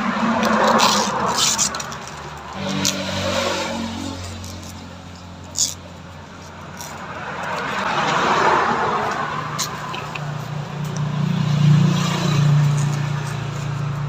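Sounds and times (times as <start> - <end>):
vehicle passing by: 0.0 - 5.8, 6.8 - 14.0.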